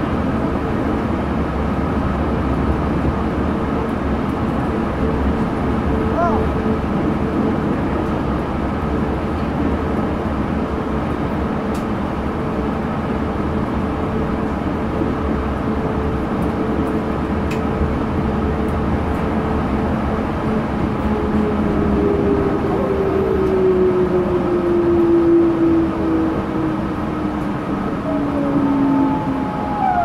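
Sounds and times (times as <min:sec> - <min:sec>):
train rumbling inside car: 0:00.0 - 0:30.0.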